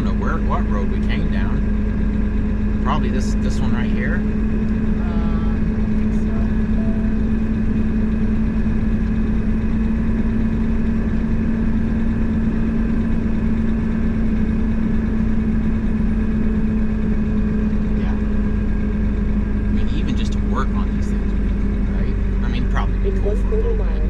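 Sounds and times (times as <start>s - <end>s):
truck engine and road drone: 0.0s - 24.0s.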